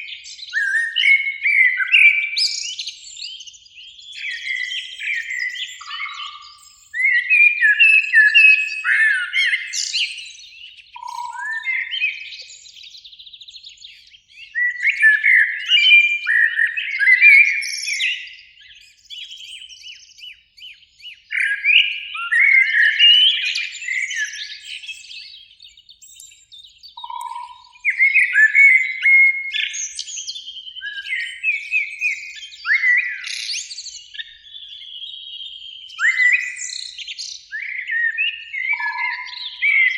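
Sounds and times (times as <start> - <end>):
blackbirds singing: 0.0 - 39.9.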